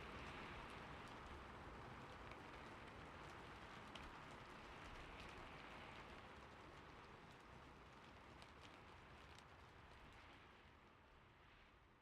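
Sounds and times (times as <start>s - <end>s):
faint steady rain: 0.0s - 12.0s.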